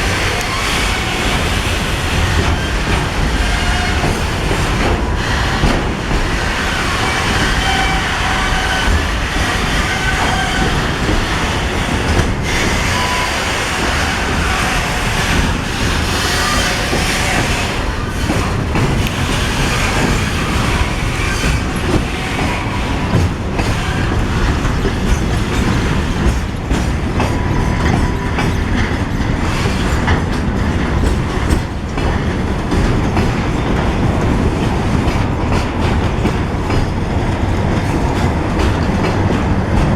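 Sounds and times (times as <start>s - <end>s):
train rolling rumble: 0.0s - 39.9s
wheels clacking over rail joints: 0.0s - 39.9s.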